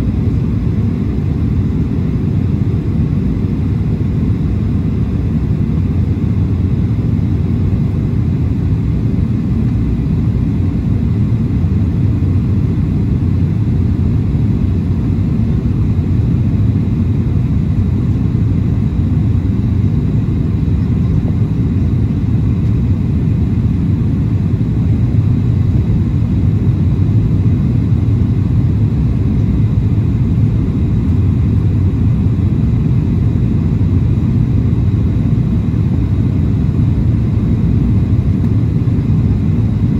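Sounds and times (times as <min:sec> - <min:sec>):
airflow over airplane: 0:00.0 - 0:39.9
airplane engines rumbling: 0:00.0 - 0:39.9.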